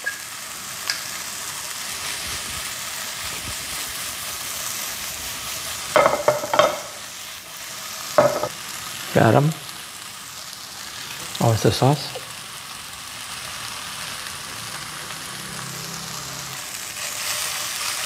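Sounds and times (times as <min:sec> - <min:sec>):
noodles sizzling in a pan: 0:00.0 - 0:18.0.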